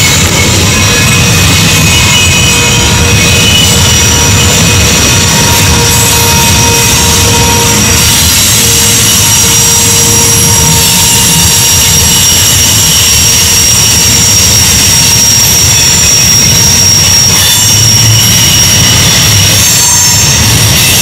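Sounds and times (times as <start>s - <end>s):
locomotive engine rumble: 0.0s - 21.0s
steel wheels squealing on rails: 0.0s - 21.0s.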